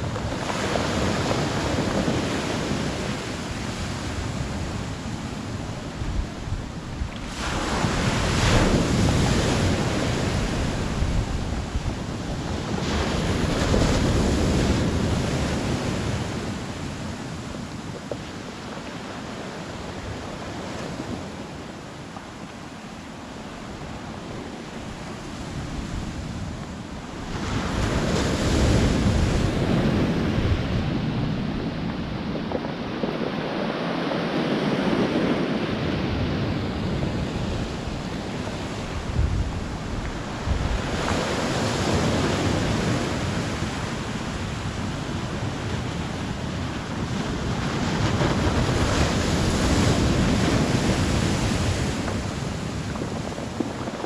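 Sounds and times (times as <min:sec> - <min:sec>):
waves breaking on pebble beach: 0:00.0 - 0:54.0
wind rumbling on microphone: 0:00.0 - 0:54.0.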